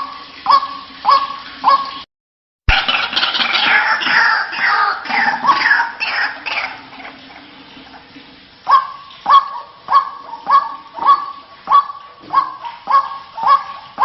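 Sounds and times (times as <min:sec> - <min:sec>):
waterhen calling: 0:00.0 - 0:02.1, 0:02.7 - 0:14.0.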